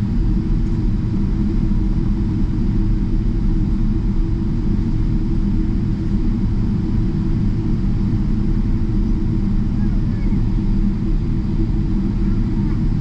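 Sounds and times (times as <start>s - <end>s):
jet engine rumble in cabin: 0.0s - 13.0s.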